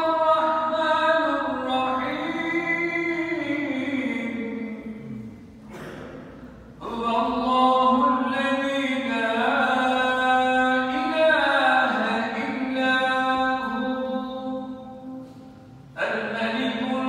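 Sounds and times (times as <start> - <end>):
man chanting: 0.0 - 5.5, 6.8 - 17.0.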